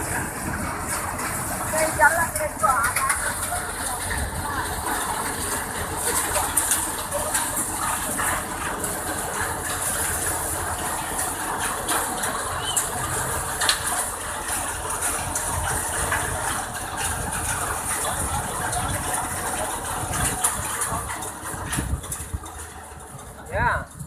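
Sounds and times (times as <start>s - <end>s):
sharp clicks and rattles: 0.0s - 24.0s.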